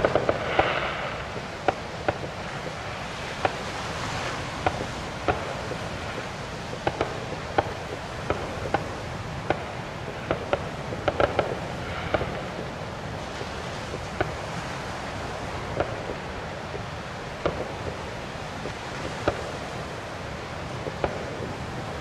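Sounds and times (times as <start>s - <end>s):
fireworks bursting: 0.0s - 22.0s
steady background rush: 0.0s - 22.0s.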